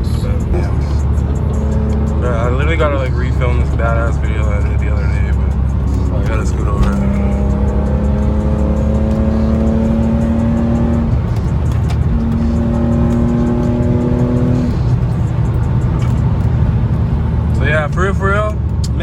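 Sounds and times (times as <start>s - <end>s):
car engine pulling under throttle: 0.0s - 19.0s
low road rumble: 0.0s - 19.0s.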